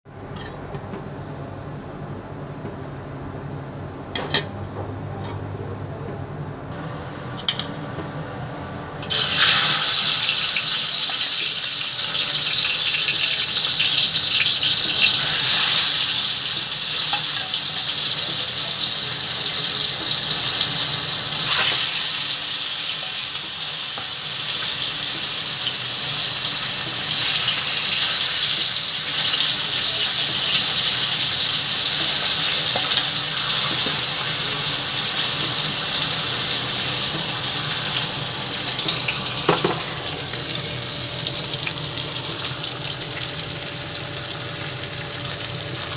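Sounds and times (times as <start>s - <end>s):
fish sizzling in hot oil: 9.1s - 45.9s.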